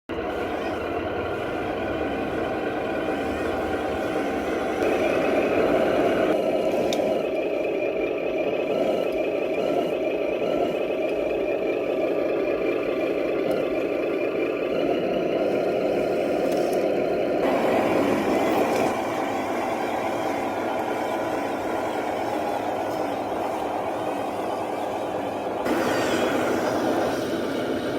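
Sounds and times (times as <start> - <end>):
remote-control truck whirring: 0.1 - 27.9.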